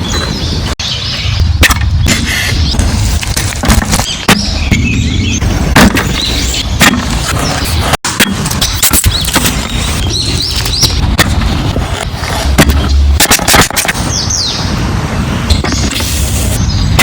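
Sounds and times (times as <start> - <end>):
birds chirping: 0.0 - 17.0
wind rumbling on microphone: 0.0 - 17.0.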